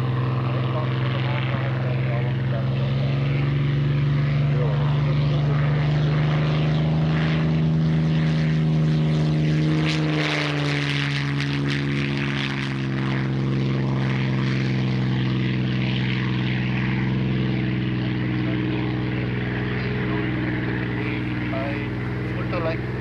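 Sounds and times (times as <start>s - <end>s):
propeller plane engine passing: 0.0s - 23.0s.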